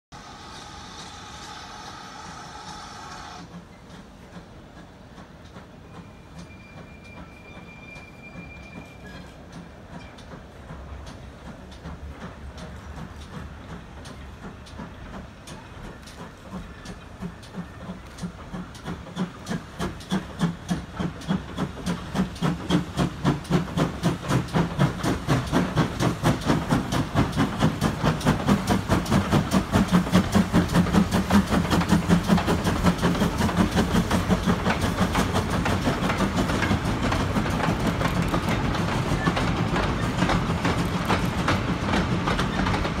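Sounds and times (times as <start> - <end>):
steam hissing: 0.1 - 4.7, 12.4 - 43.0
steam locomotive exhaust beats: 0.2 - 43.0
wagons rattling on rails: 3.6 - 43.0.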